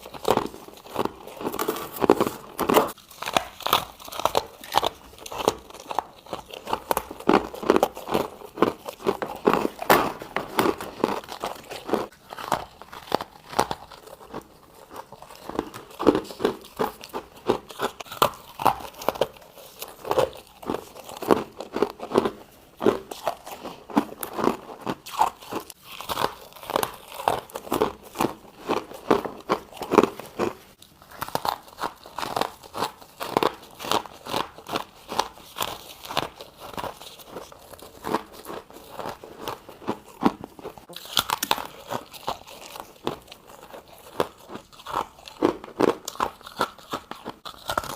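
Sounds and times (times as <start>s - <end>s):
person chewing ice crunches: 0.0s - 47.9s.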